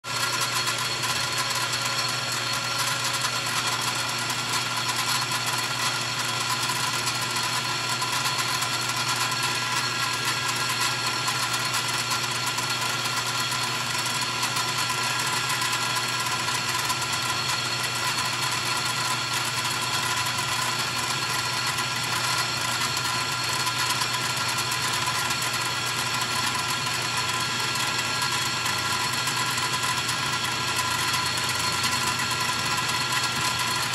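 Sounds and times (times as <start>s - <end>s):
machine tool whine: 0.1s - 33.9s.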